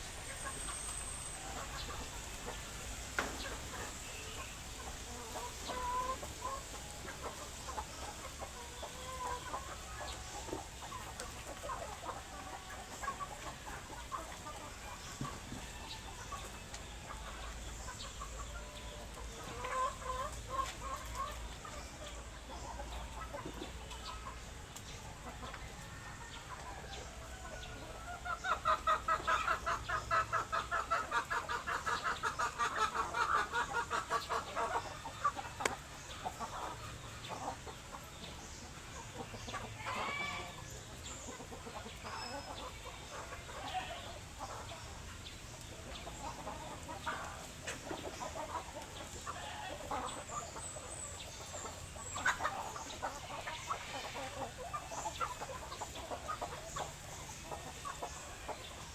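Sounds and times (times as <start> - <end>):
chickens clucking: 0.0 - 58.9.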